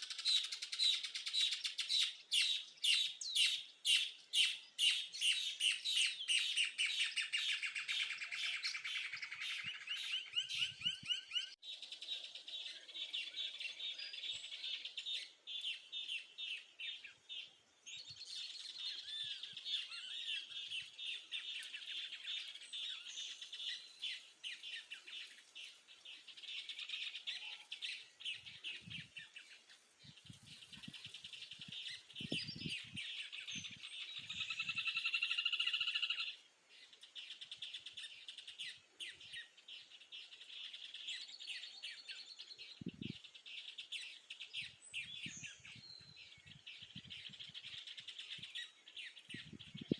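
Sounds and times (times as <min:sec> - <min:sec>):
birds chirping and singing: 0:00.0 - 0:49.9.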